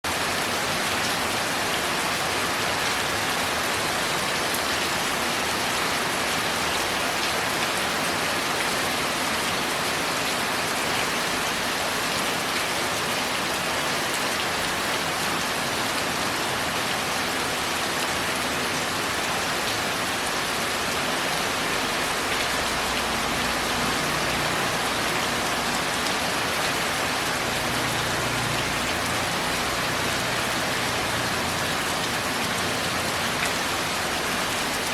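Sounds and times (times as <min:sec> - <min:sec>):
rain on a tile roof: 0:00.0 - 0:34.9.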